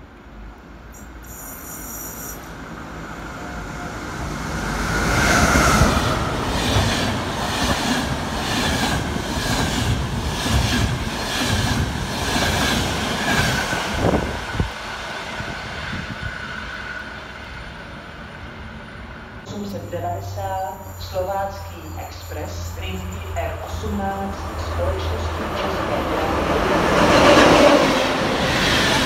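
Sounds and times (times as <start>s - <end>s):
passing locomotive: 0.0s - 29.0s.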